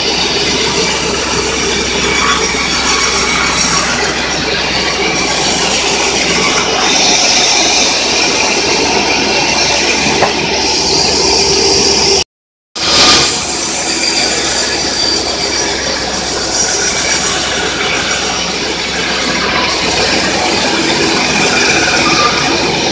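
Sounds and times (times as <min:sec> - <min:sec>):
band sawmill sawing log: 0:00.0 - 0:12.2, 0:12.8 - 0:22.9.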